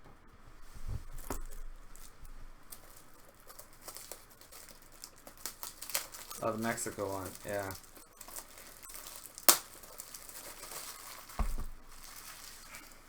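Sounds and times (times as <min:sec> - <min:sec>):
cards and plastic holders rustling: 0:00.6 - 0:13.0.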